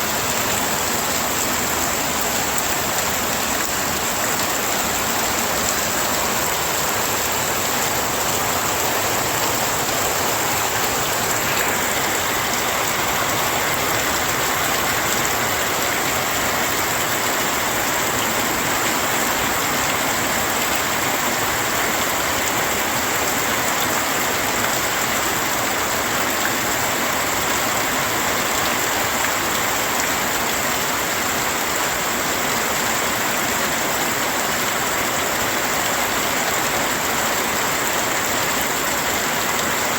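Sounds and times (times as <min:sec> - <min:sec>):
heavy rain hissing: 0:00.0 - 0:33.7.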